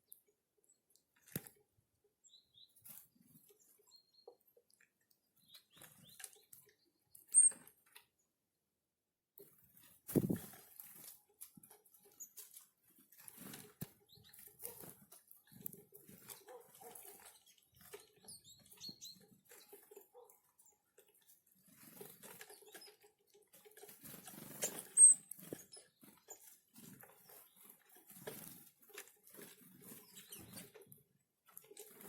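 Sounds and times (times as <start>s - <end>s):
birds pecking and hopping: 0.0s - 8.8s, 9.4s - 32.0s.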